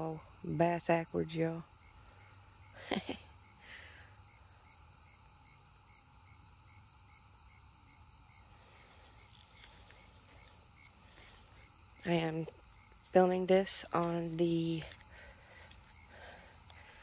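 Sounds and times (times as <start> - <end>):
insect chirping: 0.0 - 17.0.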